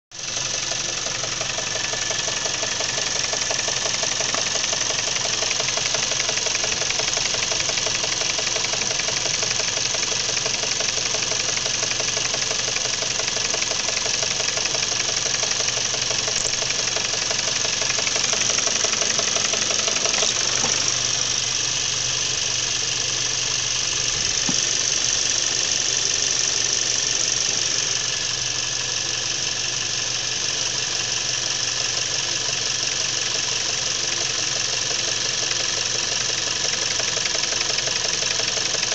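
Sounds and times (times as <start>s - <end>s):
car engine knocking: 0.2s - 38.9s.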